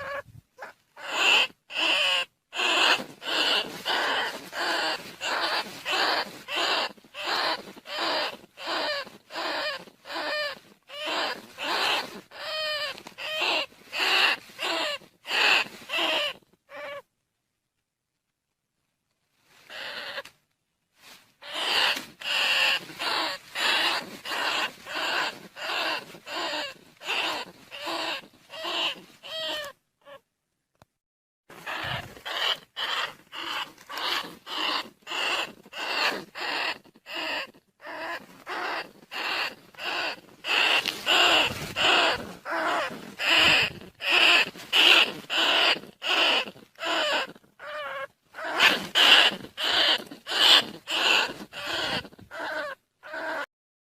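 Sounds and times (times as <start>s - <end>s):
rat squeaks: 0.0s - 17.0s, 19.7s - 20.3s, 21.4s - 30.2s, 31.5s - 53.5s.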